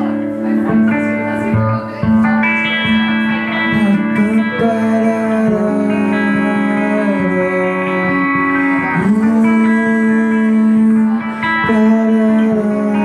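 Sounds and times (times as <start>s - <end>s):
live band music: 0.0s - 13.0s
sustained guitar chords: 0.0s - 13.0s.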